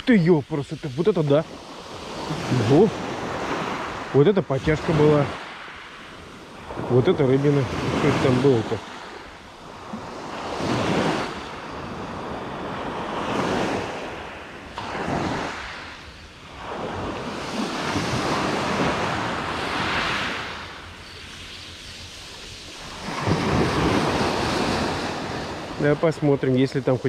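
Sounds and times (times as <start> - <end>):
sea waves washing onto shore: 0.0 - 27.0.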